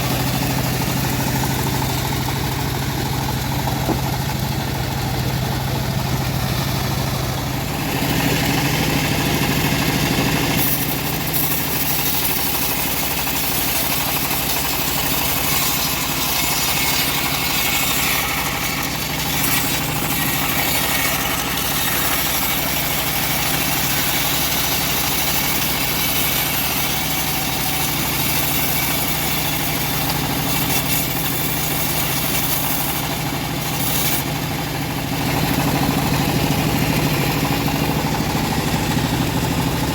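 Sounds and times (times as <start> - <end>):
bandsaw blade sawing log: 0.0 - 39.9
engine drone: 0.0 - 39.9.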